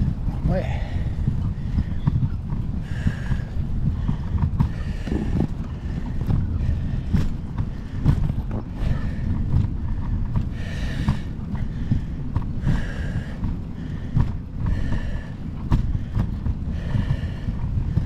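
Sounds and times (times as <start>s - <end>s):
wind buffeting microphone: 0.0s - 18.0s
bicycle clicks and knocks: 1.3s - 18.0s.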